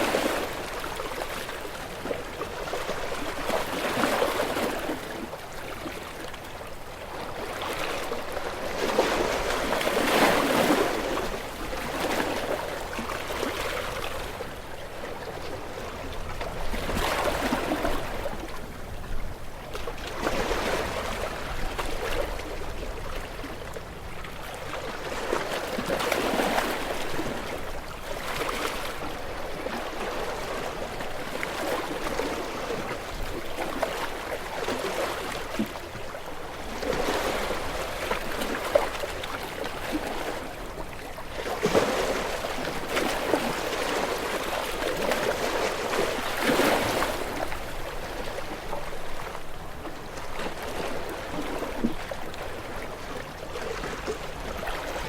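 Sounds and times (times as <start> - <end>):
gentle waves washing onto shore: 0.0 - 55.0.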